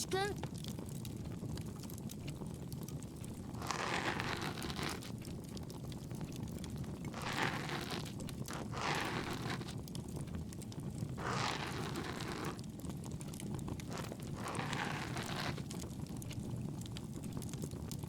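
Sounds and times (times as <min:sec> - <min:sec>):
bonfire crackling: 0:00.0 - 0:18.0.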